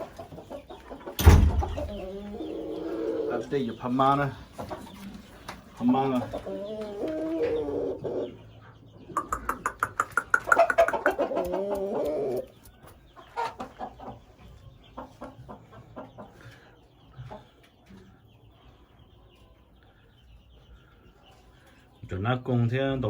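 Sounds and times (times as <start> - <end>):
chicken clucking: 0.0 - 22.2.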